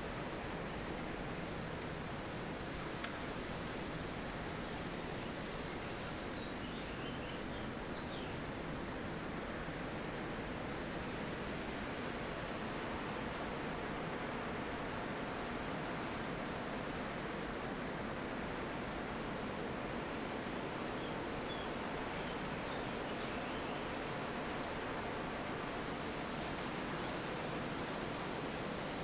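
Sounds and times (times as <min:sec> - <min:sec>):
wind rushing through trees: 0:00.0 - 0:29.0.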